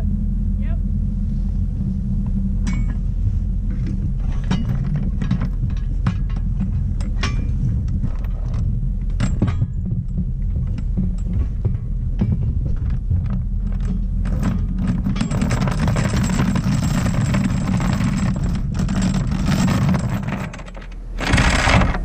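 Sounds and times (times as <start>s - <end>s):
anchor chain rattling: 2.6s - 22.0s.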